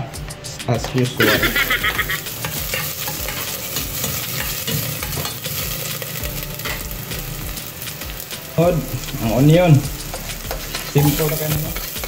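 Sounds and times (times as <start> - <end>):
ginger sizzling in hot oil: 1.2 - 12.0.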